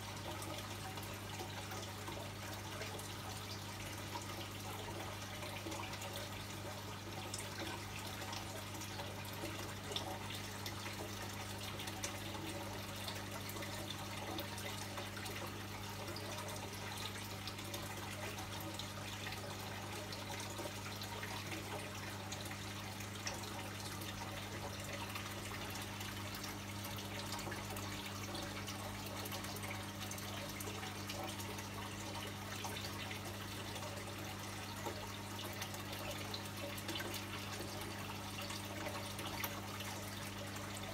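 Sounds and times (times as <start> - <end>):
aquarium water bubbling: 0.0 - 40.9.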